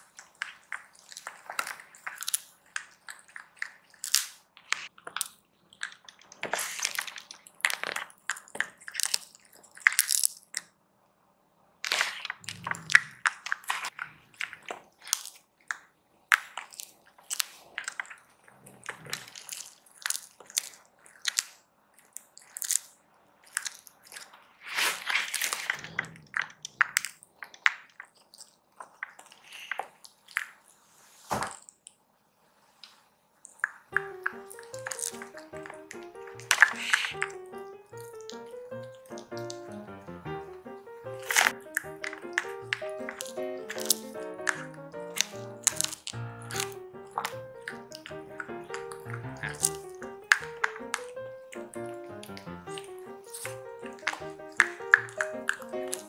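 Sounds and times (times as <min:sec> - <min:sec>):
cat crunching dried fish: 0:00.0 - 0:10.9, 0:11.8 - 0:30.8, 0:33.4 - 0:56.0.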